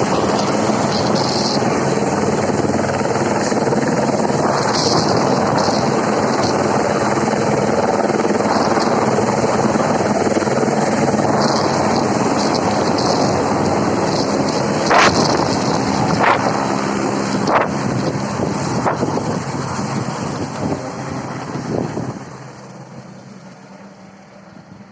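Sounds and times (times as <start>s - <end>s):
helicopter rotor and engine: 0.0s - 24.9s.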